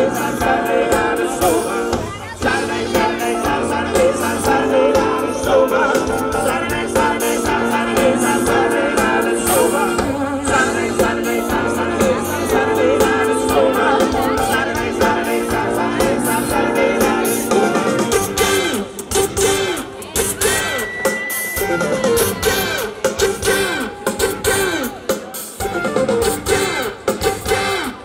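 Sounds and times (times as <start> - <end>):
person singing: 0.0 - 24.9
live band playing: 0.0 - 28.0
steady drum beat: 0.0 - 28.0.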